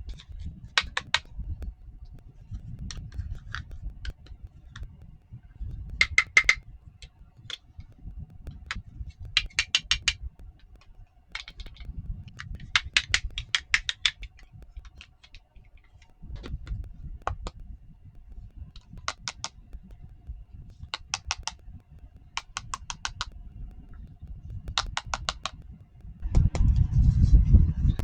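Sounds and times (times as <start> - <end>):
plastic toy pieces clicking: 0.0 - 1.8, 2.6 - 4.9, 5.7 - 6.7, 7.4 - 17.6, 18.3 - 26.2.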